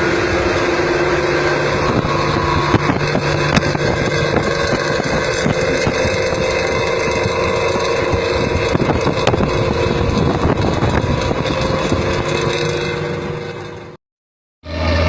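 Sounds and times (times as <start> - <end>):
bus engine with loud exhaust: 0.0 - 14.0, 14.6 - 15.0.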